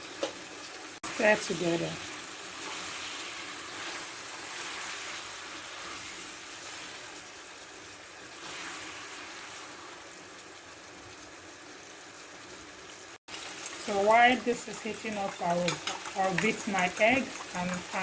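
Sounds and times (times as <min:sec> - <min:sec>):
sauce sizzling in hot oil: 0:00.0 - 0:18.0.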